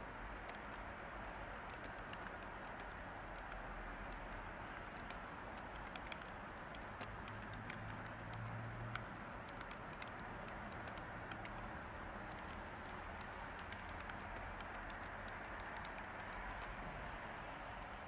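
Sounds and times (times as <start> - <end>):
white noise hiss: 0.0 - 18.0
typing on computer keyboard: 0.3 - 16.8.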